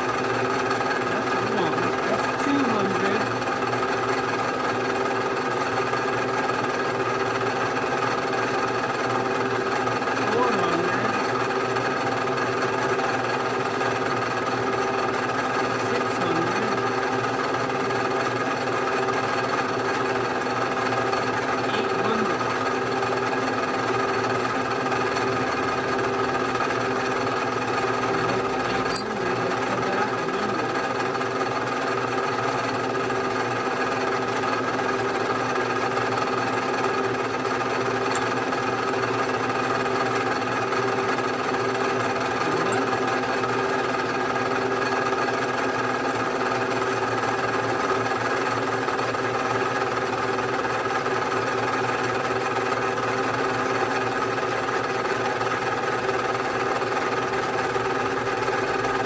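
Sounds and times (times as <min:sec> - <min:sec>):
milling machine running: 0:00.0 - 0:59.0.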